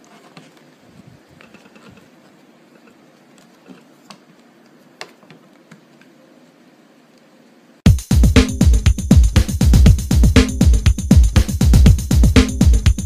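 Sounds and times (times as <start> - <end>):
air conditioner hiss: 0.0 - 13.0.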